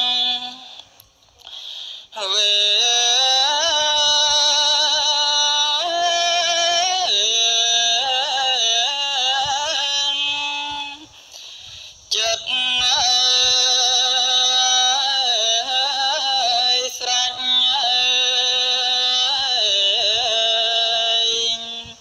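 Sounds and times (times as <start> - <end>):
person singing devotional chant: 0.0 - 22.0.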